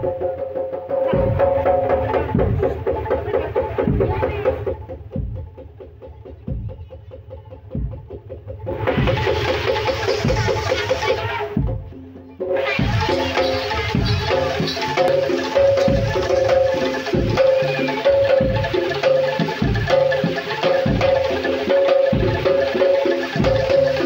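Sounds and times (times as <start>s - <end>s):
low drum beat: 0.0s - 24.0s.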